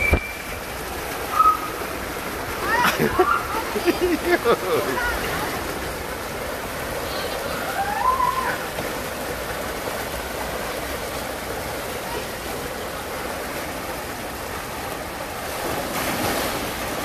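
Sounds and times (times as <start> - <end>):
water churning in trough: 0.0 - 17.0
water rushing from waterslide: 0.0 - 17.0.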